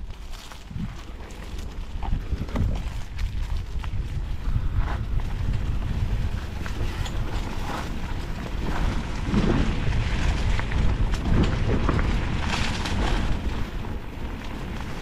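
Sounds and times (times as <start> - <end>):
bike bumps and rattles: 0.0 - 15.0
bike tyres rolling over leaves: 0.0 - 15.0
wind rumble on microphone: 0.0 - 15.0.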